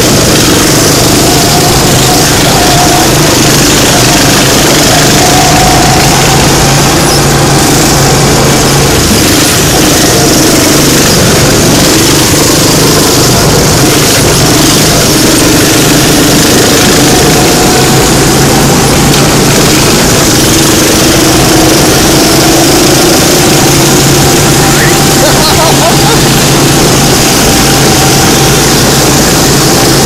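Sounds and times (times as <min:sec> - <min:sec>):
go-kart engines running: 0:00.0 - 0:30.0.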